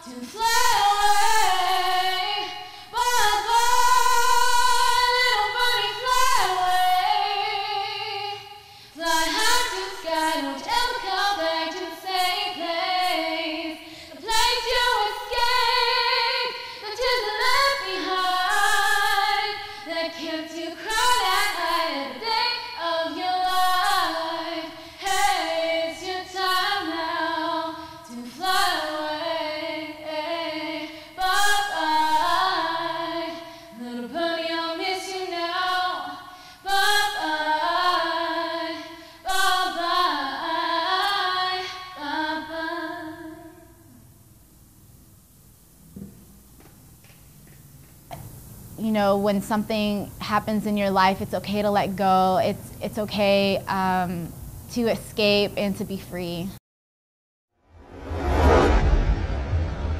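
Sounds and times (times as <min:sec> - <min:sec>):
woman singing unaccompanied: 0:00.0 - 0:43.8, 0:48.8 - 0:56.6.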